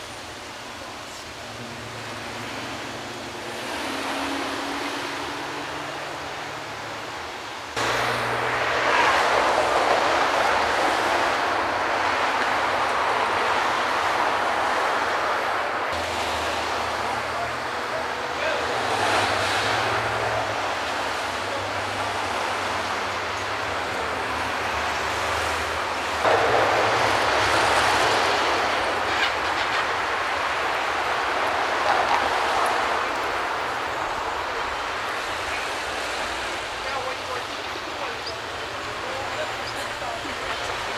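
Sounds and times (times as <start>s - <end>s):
street traffic rush: 0.0s - 40.9s
large vehicle passing close: 1.6s - 36.8s.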